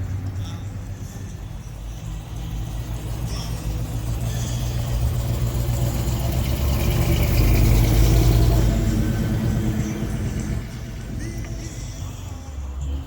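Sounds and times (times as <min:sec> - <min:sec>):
car engine driving past: 0:00.0 - 0:13.0.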